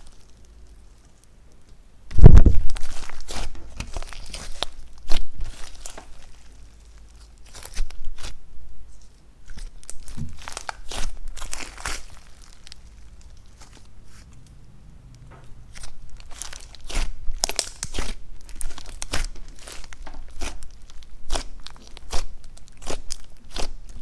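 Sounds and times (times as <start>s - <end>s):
slime crackling and squelching: 0.0s - 1.4s, 2.1s - 14.5s, 15.4s - 24.0s.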